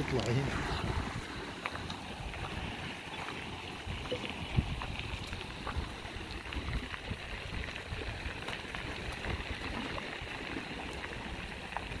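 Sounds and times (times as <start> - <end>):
water rushing: 0.0 - 12.0
small clicks and splashes: 1.4 - 12.0.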